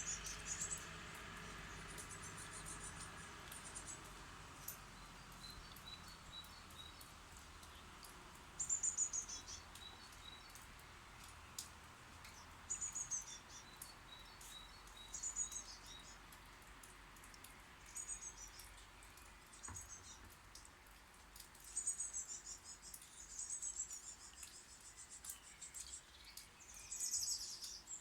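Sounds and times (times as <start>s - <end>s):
small birds chirping rapidly: 0.0s - 28.0s.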